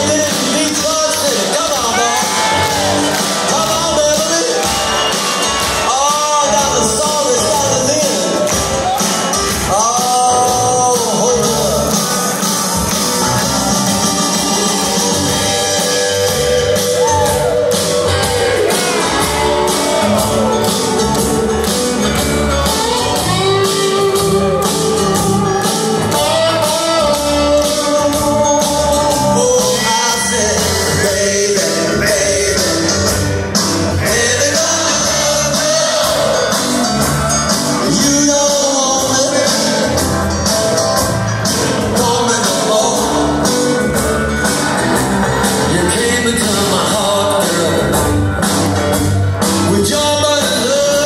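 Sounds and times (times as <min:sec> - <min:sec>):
live rock band: 0:00.0 - 0:51.0
sliding melody line: 0:00.0 - 0:51.0.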